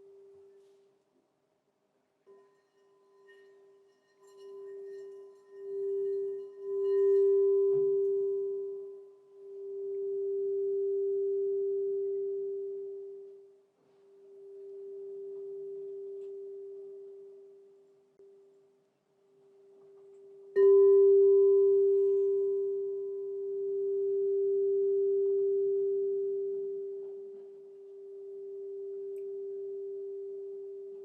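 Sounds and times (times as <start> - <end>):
crystal singing bowl tone: 2.3 - 18.6, 19.6 - 31.0.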